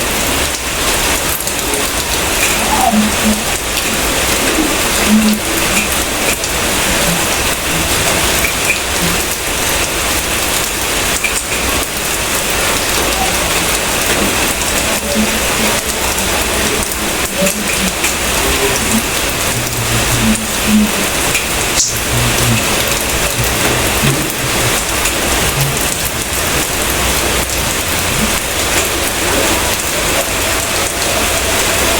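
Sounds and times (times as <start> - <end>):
steady rain: 0.0 - 31.9.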